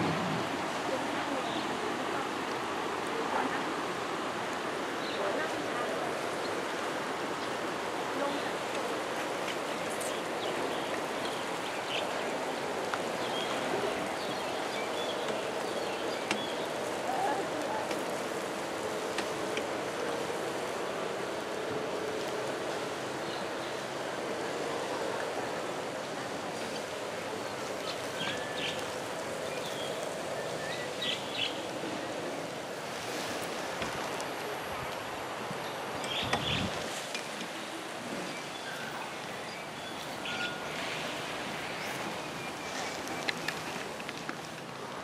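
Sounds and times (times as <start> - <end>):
rushing outdoor background noise: 0.0 - 45.0.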